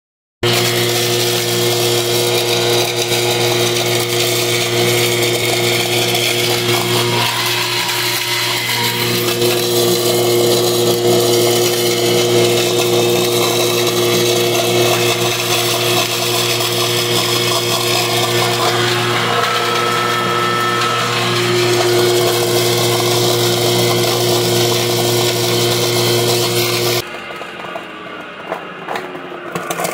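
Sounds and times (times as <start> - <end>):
blades chopping styrofoam: 0.4 - 27.0
shredding machine motor hum: 0.4 - 29.9.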